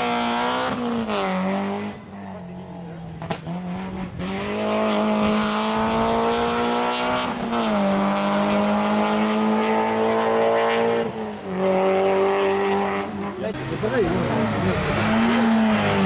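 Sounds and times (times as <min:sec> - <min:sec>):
rally car engine revving hard: 0:00.0 - 0:16.0.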